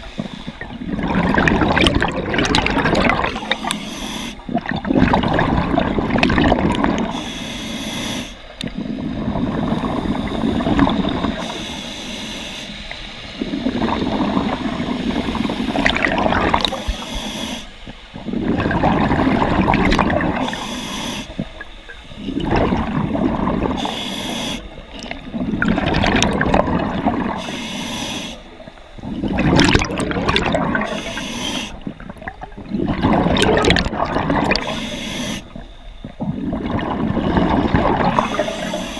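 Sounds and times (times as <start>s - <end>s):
gurgling exhaled bubbles: 0.0s - 3.8s, 4.4s - 7.2s, 8.6s - 11.6s, 13.4s - 17.4s, 18.1s - 27.5s, 28.5s - 38.9s
regulator breathing underwater: 2.8s - 4.7s, 6.4s - 25.9s, 26.7s - 38.9s.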